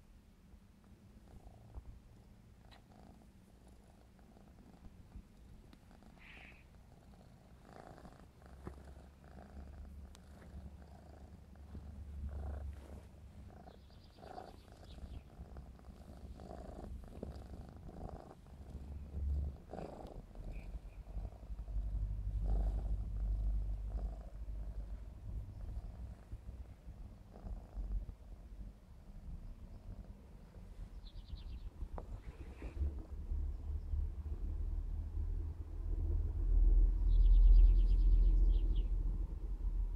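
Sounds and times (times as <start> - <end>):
kitten purring: 0.8 - 39.9.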